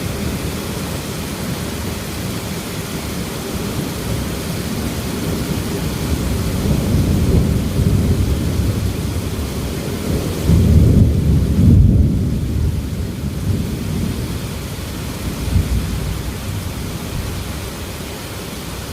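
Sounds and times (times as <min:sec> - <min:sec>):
thunder rumbling: 0:00.0 - 0:18.0
heavy rain: 0:00.0 - 0:18.9.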